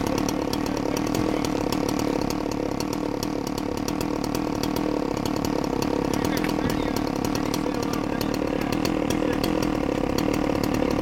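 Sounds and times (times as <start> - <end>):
two-stroke saw cutting: 0.0 - 11.0.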